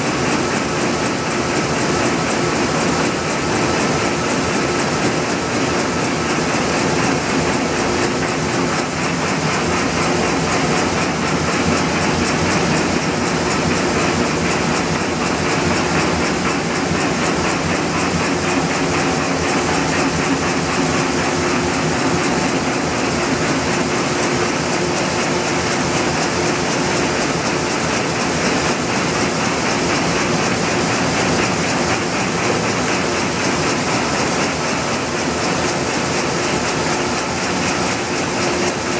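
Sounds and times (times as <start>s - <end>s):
printing press clattering: 0.0s - 38.9s.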